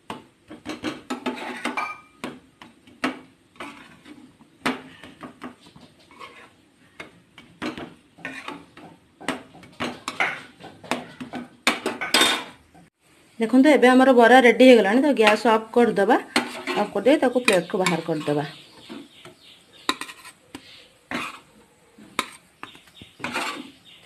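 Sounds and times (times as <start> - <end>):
spatula scraping and tapping griddle: 0.0 - 12.9, 16.2 - 24.0.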